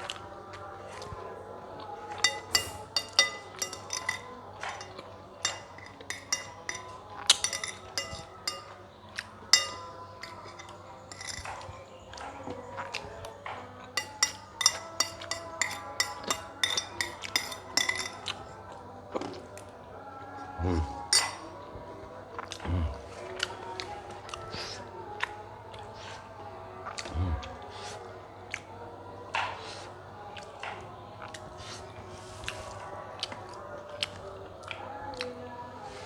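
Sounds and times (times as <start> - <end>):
spoon clinking against dishes: 0.1 - 36.0.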